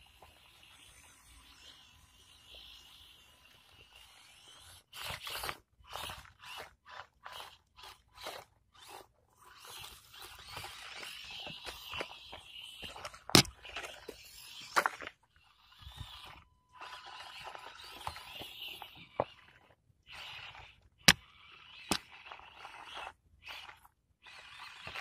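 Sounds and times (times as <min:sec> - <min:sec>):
rc car scraping and crunching: 0:00.0 - 0:25.0.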